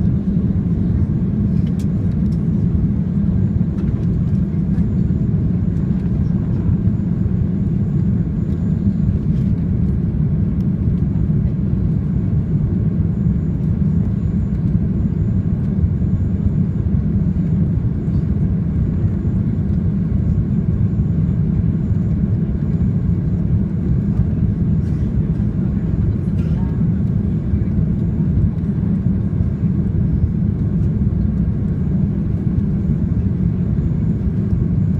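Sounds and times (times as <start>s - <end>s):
jet airliner rumble: 0.0s - 34.9s.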